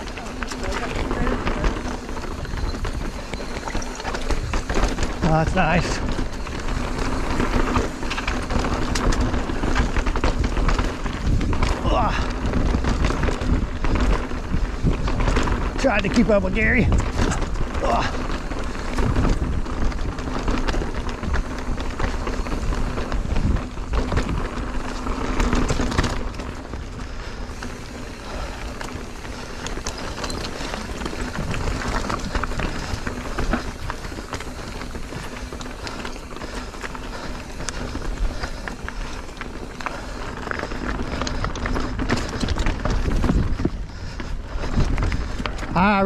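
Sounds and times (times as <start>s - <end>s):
bike rattling and clattering: 0.0s - 46.0s
bike tyres rolling on dirt: 0.0s - 46.0s
wind rumbling on microphone: 0.0s - 46.0s.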